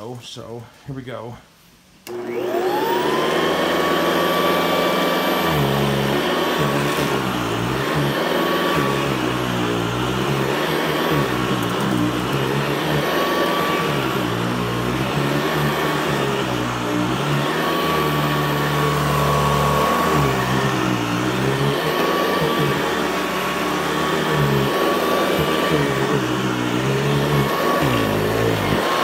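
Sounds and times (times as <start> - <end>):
upright vacuum running: 2.0 - 29.0.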